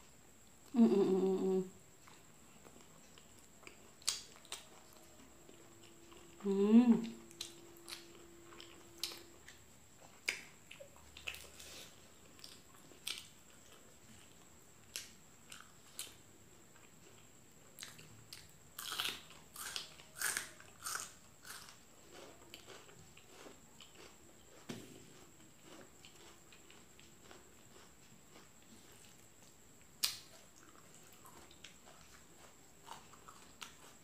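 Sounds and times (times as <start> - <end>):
chewing with crisp crunches: 1.8 - 34.0.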